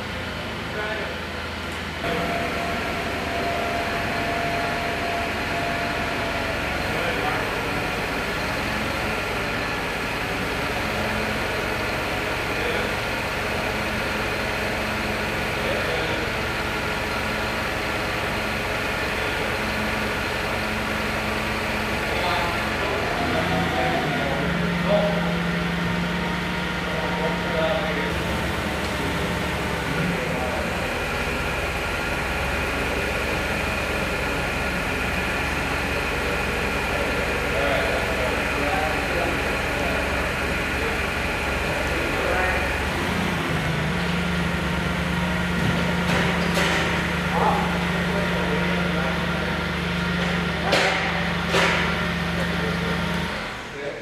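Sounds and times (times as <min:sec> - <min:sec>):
steady machine drone: 0:00.0 - 0:54.0.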